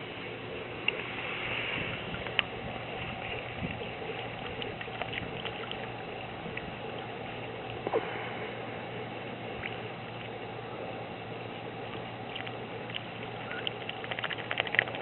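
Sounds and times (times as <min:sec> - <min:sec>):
duck dabbling and slurping: 0:00.0 - 0:15.0.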